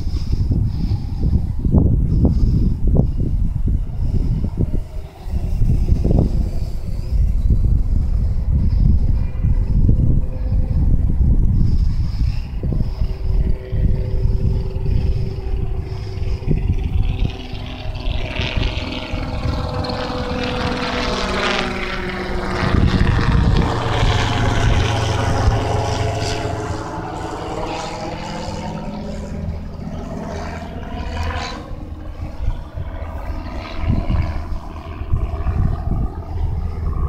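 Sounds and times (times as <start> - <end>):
model plane motor whine: 0.0 - 37.0
wind rumbling on microphone: 0.0 - 37.0.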